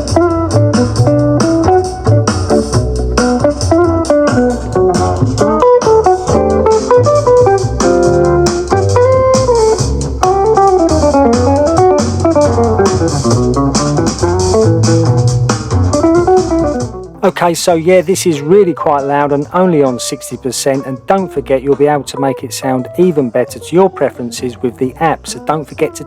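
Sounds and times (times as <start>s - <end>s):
guitar music with bass line: 0.0s - 26.0s.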